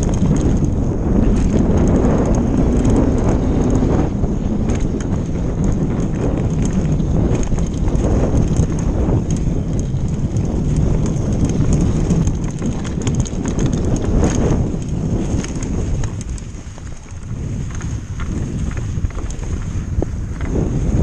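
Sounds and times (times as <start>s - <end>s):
bike rattling over bumps: 0.0s - 21.0s
tyres rumbling over snow: 0.0s - 21.0s
wind buffeting microphone: 0.0s - 21.0s.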